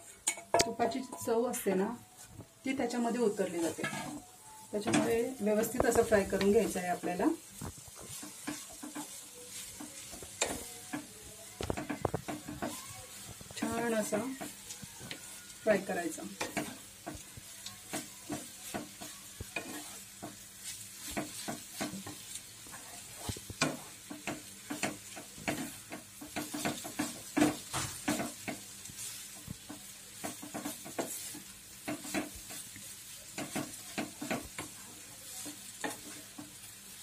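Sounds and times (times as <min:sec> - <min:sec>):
frying sizzle: 0:00.0 - 0:37.0
spatula scraping pan: 0:03.3 - 0:37.0.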